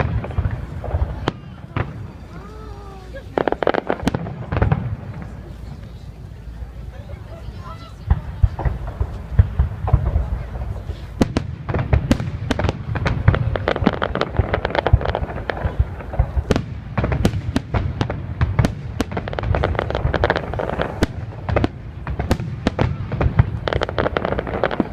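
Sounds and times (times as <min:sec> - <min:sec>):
fireworks bangs and crackles: 0:00.0 - 0:24.9.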